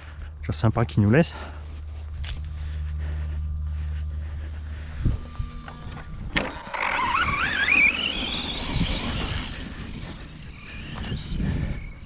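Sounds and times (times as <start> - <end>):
electric motor whining: 2.2 - 12.0.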